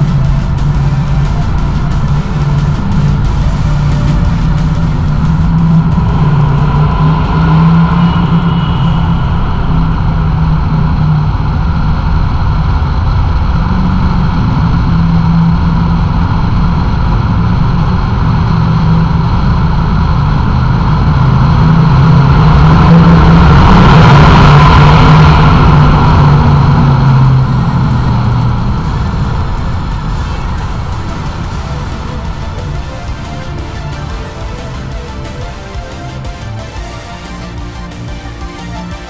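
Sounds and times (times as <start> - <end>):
car engine hum: 0.0 - 39.0
road noise in tunnel: 0.0 - 39.0.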